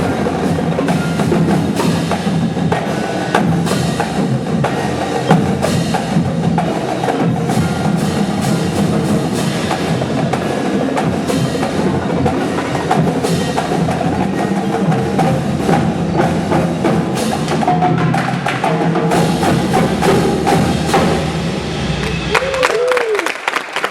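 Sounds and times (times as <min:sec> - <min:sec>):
sustained pitched percussion notes: 0:00.0 - 0:22.9
fast drumline drumming: 0:00.0 - 0:23.3.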